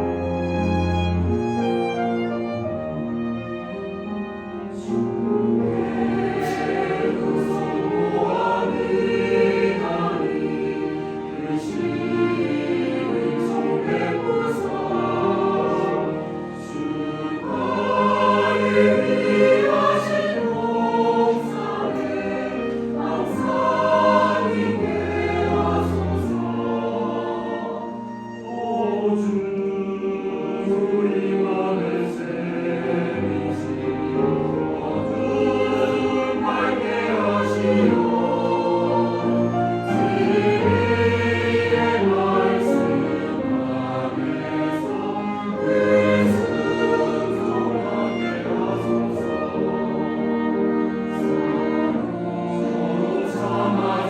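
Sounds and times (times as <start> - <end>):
cello: 0.0 - 54.0
choir singing a hymn: 0.0 - 54.0
piano: 0.0 - 54.0
violin: 0.0 - 54.0.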